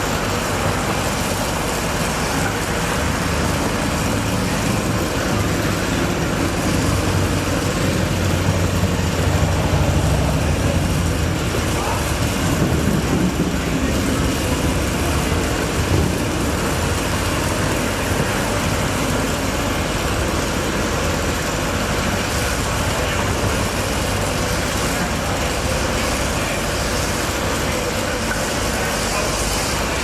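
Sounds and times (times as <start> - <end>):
indistinct voices: 0.0 - 30.0
road traffic noise: 0.0 - 30.0.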